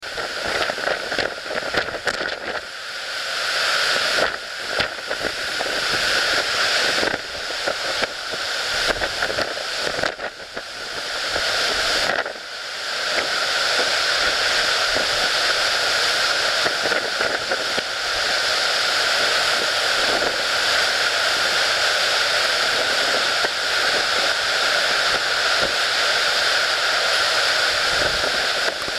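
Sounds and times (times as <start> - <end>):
wind and rain rushing: 0.0 - 28.9.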